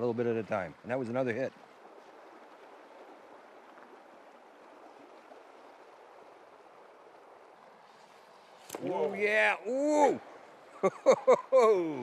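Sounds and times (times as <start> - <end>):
faint river current rushing: 0.0 - 12.0.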